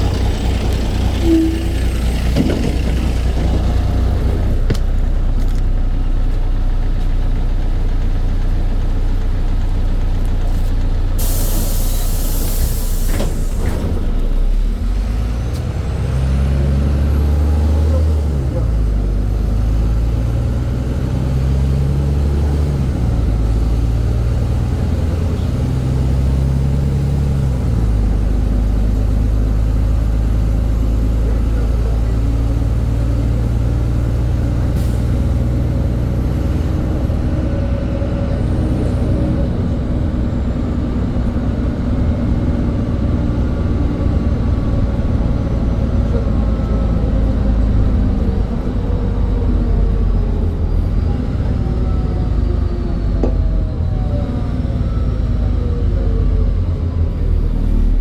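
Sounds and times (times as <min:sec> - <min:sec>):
bus diesel engine running: 0:00.0 - 0:58.0
road and drivetrain noise: 0:00.0 - 0:58.0.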